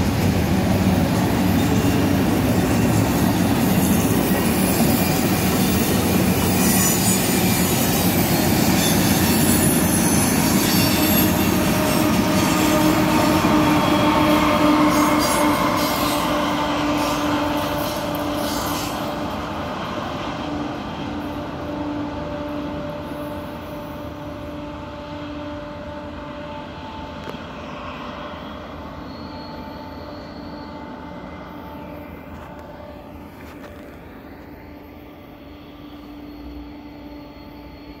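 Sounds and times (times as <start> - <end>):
freight train rumbling: 0.0 - 38.0
train wheel squeal: 0.0 - 38.0.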